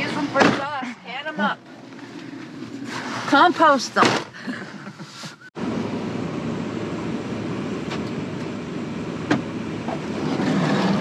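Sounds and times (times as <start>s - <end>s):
car driving noise: 0.0s - 11.0s.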